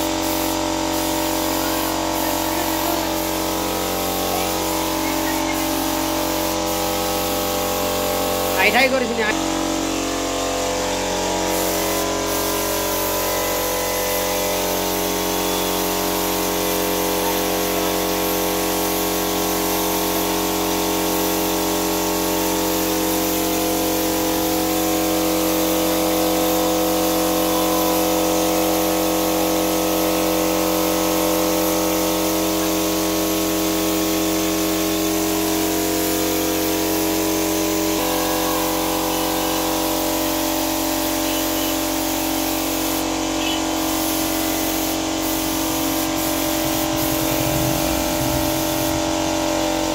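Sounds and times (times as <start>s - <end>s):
air compressor motor hum: 0.0s - 49.9s
spray gun hissing: 0.0s - 49.9s.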